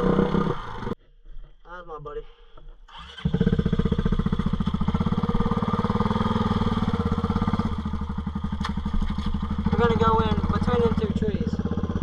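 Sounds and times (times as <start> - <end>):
off-road vehicle engine pulsing: 0.0 - 1.0, 3.0 - 12.0.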